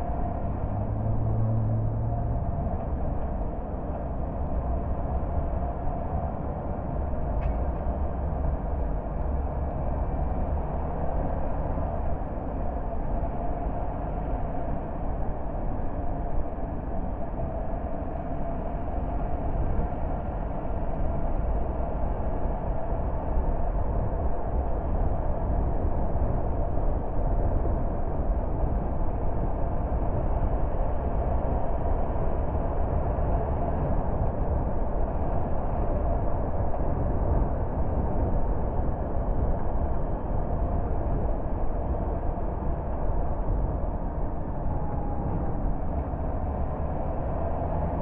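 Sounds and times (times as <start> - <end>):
car tyre and engine noise: 0.0 - 48.0.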